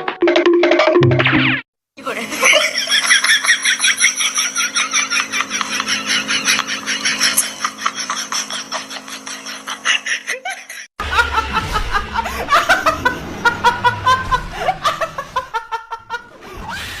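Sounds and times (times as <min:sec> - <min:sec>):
people laughing: 0:02.0 - 0:16.9.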